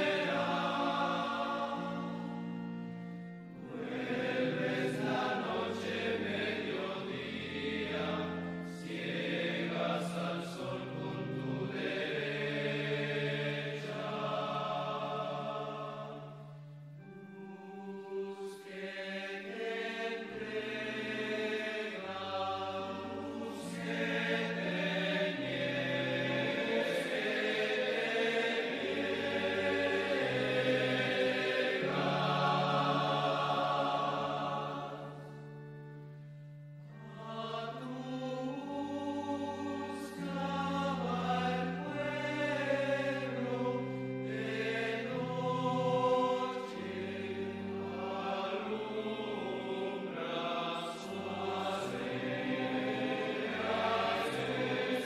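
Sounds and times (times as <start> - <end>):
choir singing a hymn: 0.0 - 55.0
low sustained accompaniment: 0.0 - 55.0.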